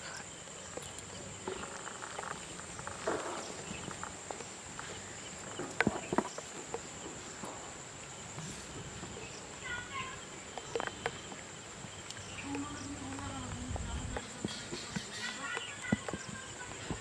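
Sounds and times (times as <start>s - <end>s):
insects chirring: 0.0s - 17.0s
rustling: 0.0s - 17.0s.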